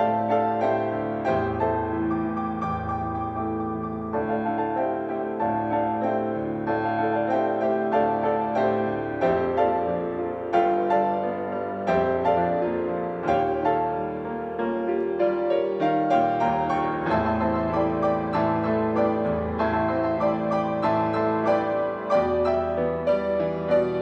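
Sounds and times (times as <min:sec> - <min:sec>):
piano piece: 0:00.0 - 0:24.0.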